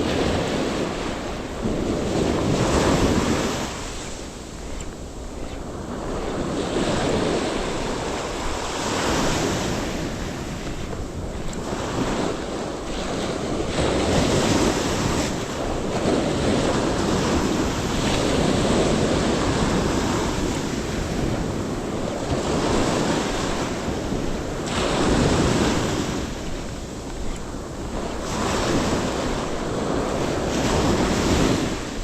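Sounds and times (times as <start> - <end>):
ocean surf breaking on a beach: 0.0 - 32.0
wind buffeting microphone: 0.0 - 32.0.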